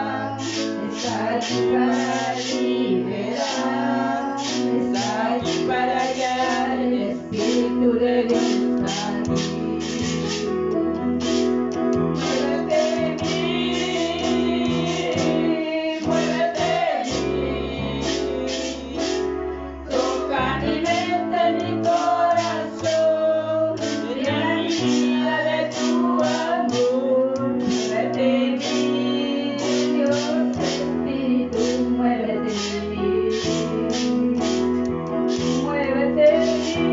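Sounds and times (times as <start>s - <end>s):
woman singing: 0.0s - 9.9s, 12.2s - 19.3s, 19.9s - 34.8s, 35.4s - 36.9s
electronic keyboard chords: 0.0s - 36.9s
keyboard drum rhythm: 0.0s - 36.9s.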